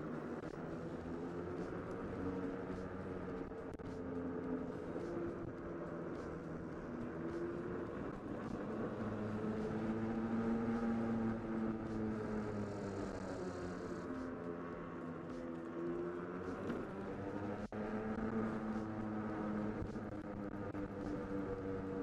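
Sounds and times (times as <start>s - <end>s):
tyre and road noise: 0.0s - 22.0s.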